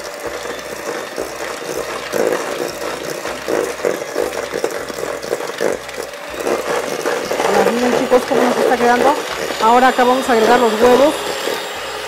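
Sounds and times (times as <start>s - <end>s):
electric hand mixer running: 0.0s - 12.0s.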